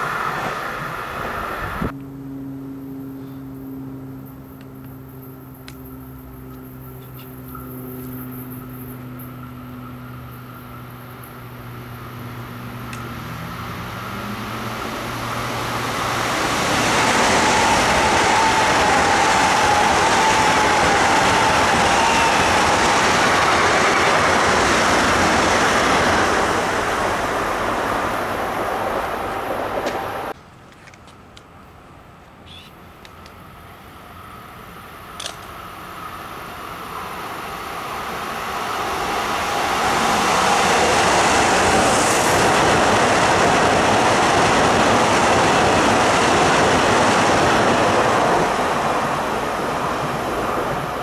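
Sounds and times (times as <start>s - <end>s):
train rumbling: 0.0s - 2.0s, 3.6s - 30.4s, 33.0s - 51.0s
electric train passing: 0.0s - 30.4s, 32.9s - 51.0s.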